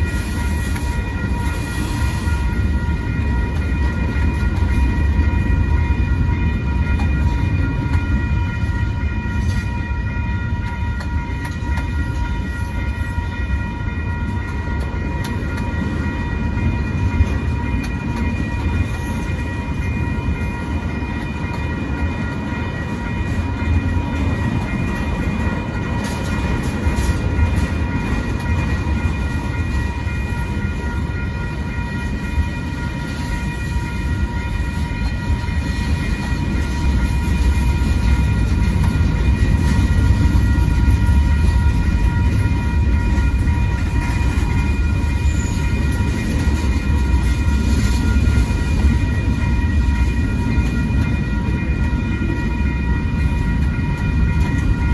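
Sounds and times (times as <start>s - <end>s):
freight train rolling past: 0.0s - 54.9s
high multi-tone ringing: 0.0s - 54.9s.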